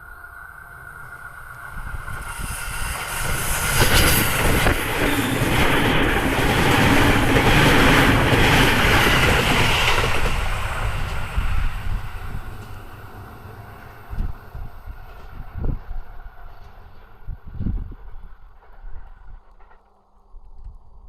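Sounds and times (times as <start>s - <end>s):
train wheels on rails: 0.4s - 20.8s.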